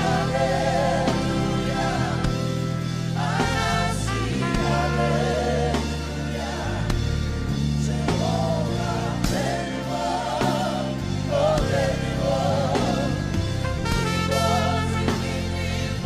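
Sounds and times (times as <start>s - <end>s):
drum beats: 0.0s - 15.7s
held bass notes: 0.0s - 16.0s.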